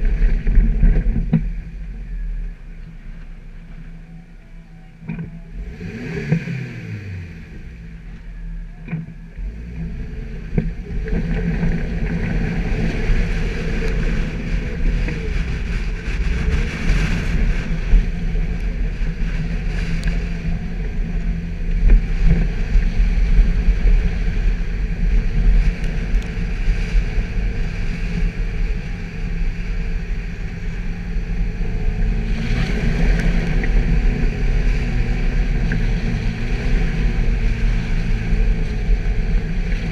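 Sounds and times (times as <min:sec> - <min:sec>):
engine running under load: 0:00.0 - 0:39.9.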